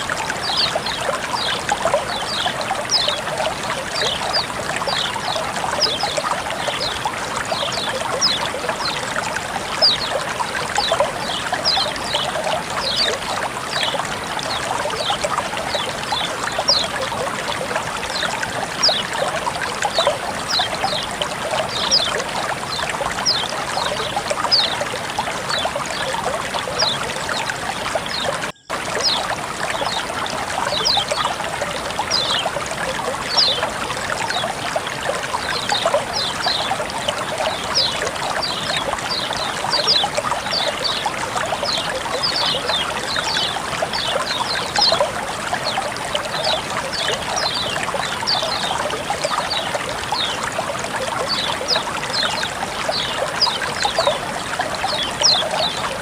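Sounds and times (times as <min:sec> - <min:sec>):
high water plinks: 0:00.0 - 0:56.0
water flowing and trickling: 0:00.0 - 0:56.0.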